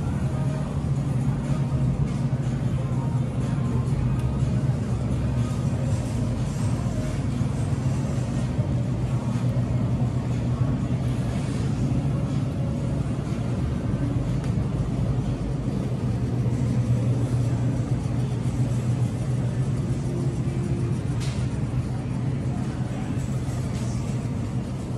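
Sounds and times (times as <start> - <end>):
supermarket hum and rumble: 0.0 - 24.9.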